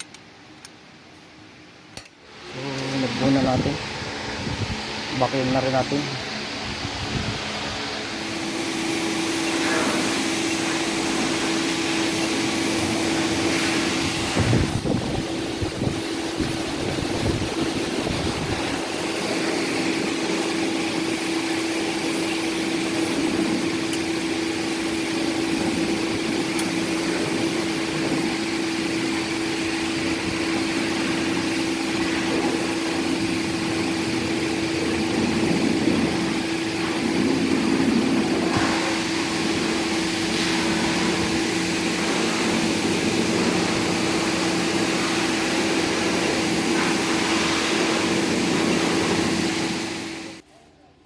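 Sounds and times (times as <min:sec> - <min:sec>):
vacuum pump humming: 0:02.0 - 0:50.4.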